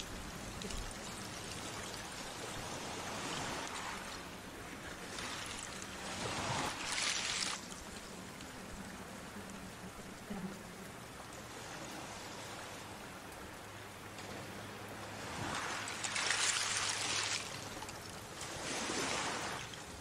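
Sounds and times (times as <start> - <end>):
sea waves rushing: 0.0 - 8.2, 11.5 - 20.0
waves washing in: 0.0 - 20.0.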